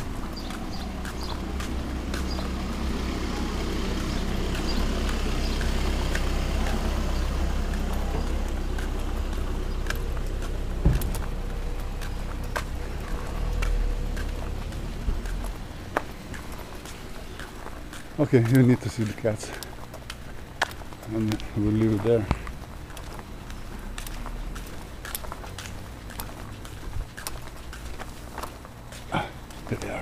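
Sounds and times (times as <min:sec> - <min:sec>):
car passing: 0:00.0 - 0:30.0.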